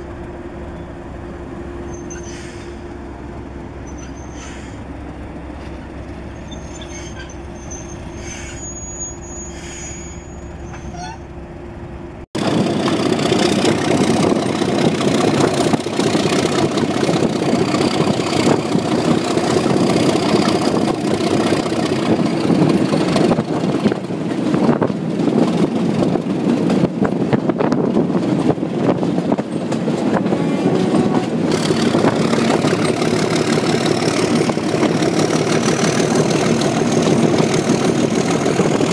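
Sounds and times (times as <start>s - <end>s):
diesel locomotive engines working hard: 0.0s - 38.9s
wind and rail noise: 0.0s - 38.9s.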